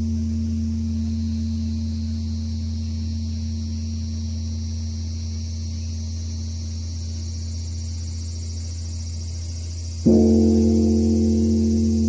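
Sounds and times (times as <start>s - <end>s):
bronze bell humming: 0.0s - 8.0s, 9.0s - 12.0s.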